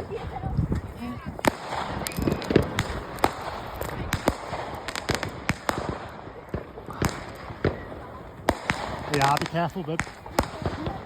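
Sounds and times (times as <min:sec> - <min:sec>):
fireworks bangs and pops: 0:00.0 - 0:11.0
fireworks crackle: 0:00.0 - 0:11.0.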